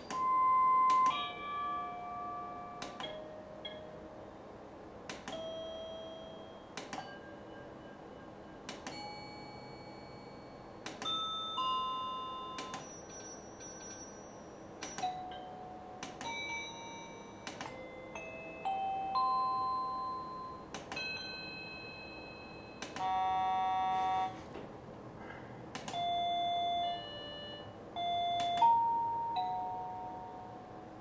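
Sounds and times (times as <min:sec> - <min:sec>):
electronic doorbell chime tunes: 0:00.0 - 0:04.1, 0:05.3 - 0:24.4, 0:25.9 - 0:30.9.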